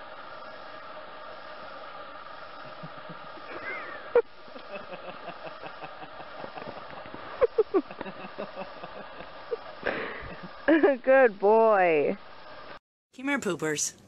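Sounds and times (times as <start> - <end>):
steady background hum: 0.0 - 12.8.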